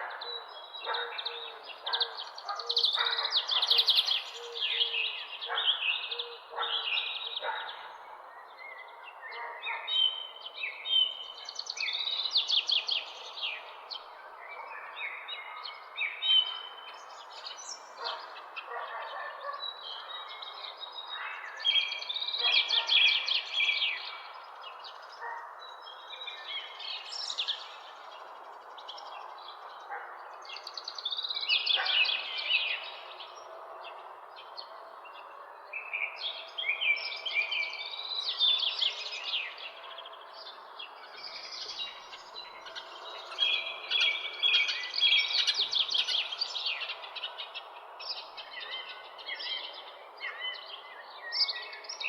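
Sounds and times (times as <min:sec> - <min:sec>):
birds chirping and singing: 0:00.0 - 0:52.0.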